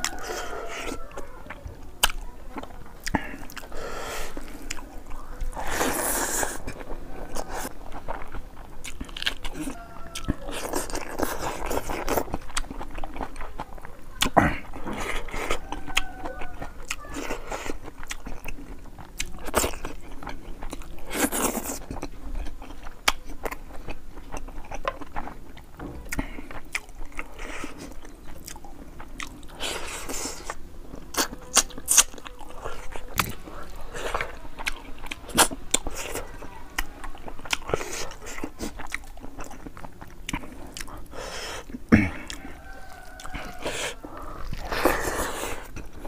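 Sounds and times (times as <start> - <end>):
wet chewing: 0.0 - 46.0.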